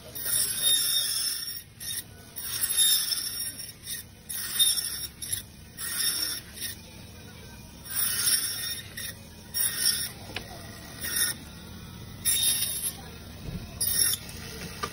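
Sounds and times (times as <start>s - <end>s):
saw motor humming: 0.0s - 14.9s.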